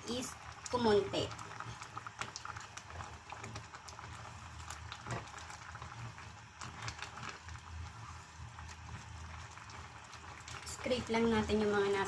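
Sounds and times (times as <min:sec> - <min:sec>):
curry sauce bubbling: 0:00.0 - 0:12.0.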